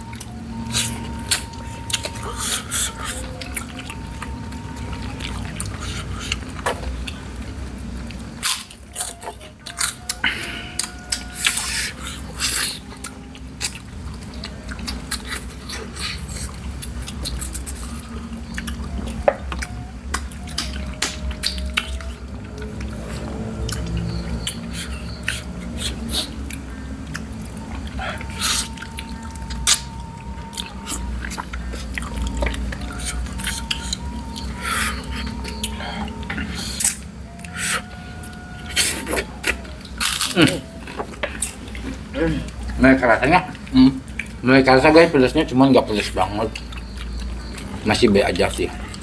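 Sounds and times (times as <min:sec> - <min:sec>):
faint music: 0:00.0 - 0:49.0
wet chewing and lip-smacking: 0:00.0 - 0:49.0.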